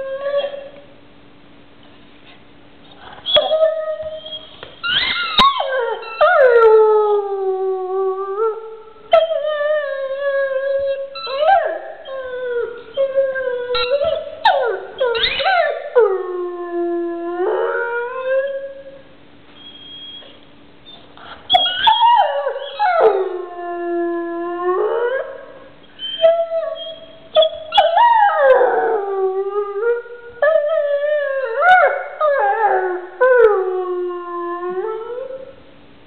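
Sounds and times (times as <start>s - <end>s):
dog howling: 3.2s - 19.0s, 21.5s - 35.5s.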